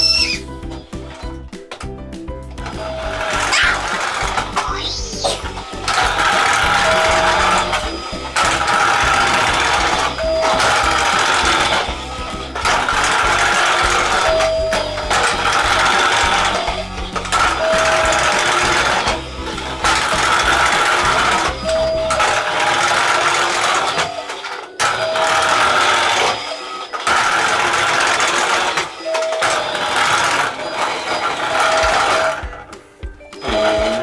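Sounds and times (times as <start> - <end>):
toy car motor whirring: 0.0 - 0.5, 2.8 - 32.6, 33.4 - 34.0.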